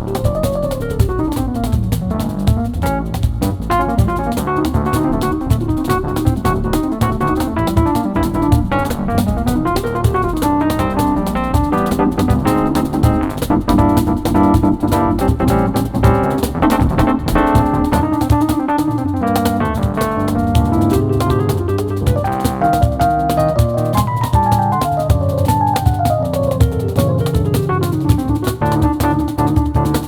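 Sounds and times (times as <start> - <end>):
piano chords and melody: 0.0 - 30.0
rapid drum strokes: 0.0 - 30.0.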